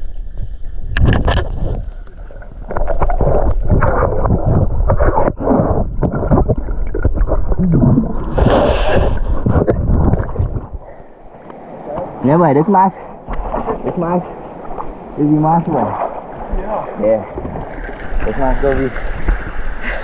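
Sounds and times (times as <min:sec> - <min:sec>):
underwater water churning: 0:00.0 - 0:20.0.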